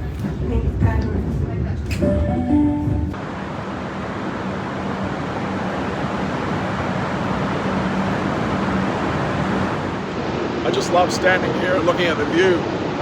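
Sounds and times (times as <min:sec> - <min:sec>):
urban traffic: 0:00.0 - 0:13.0.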